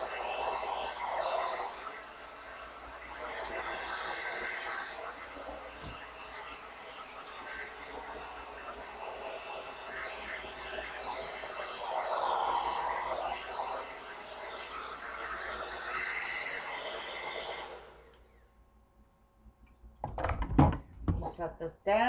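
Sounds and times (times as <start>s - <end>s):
hair dryer blowing: 0.0s - 18.6s.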